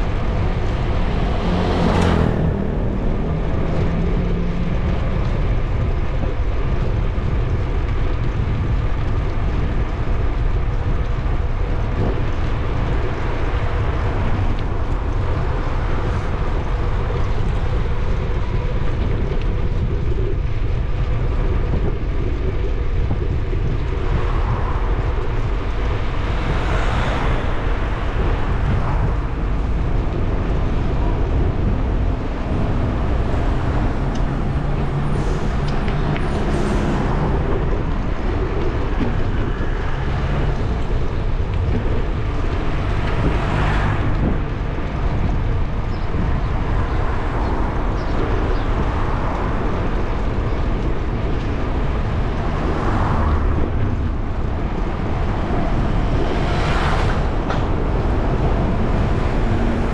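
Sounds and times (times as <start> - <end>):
bicycle tyre and road noise: 0.0 - 59.9
passing traffic: 0.0 - 59.9
wind buffeting microphone: 0.0 - 59.9.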